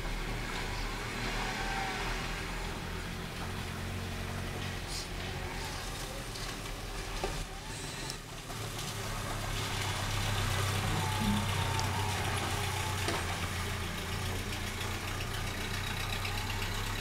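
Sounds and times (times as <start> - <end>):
van engine labouring: 0.0 - 17.0.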